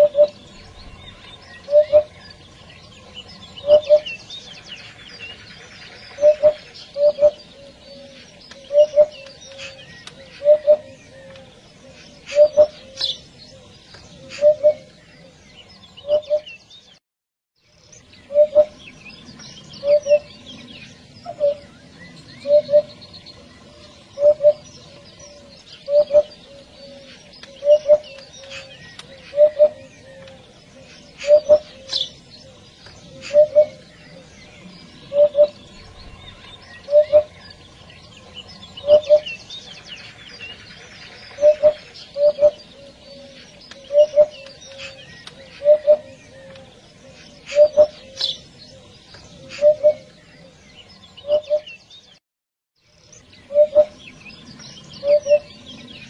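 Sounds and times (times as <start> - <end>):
small birds chirping: 0.0 - 17.0, 17.6 - 52.2, 52.8 - 56.0.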